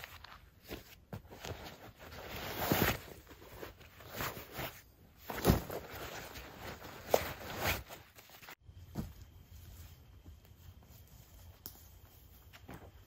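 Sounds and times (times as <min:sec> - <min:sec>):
nylon fabric rustling: 0:00.0 - 0:13.0.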